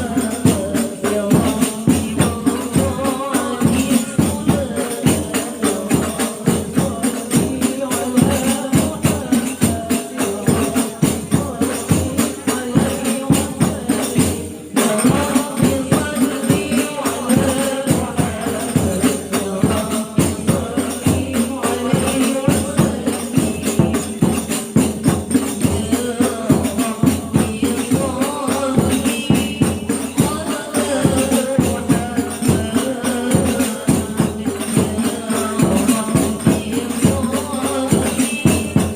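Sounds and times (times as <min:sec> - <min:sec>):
frame drums beaten fast: 0:00.0 - 0:38.9
women singing: 0:00.0 - 0:38.9.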